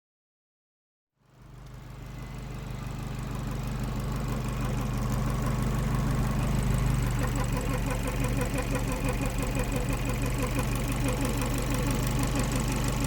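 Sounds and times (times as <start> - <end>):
car engine idling: 1.3 - 13.0
squealing engine bay noise: 2.1 - 13.0.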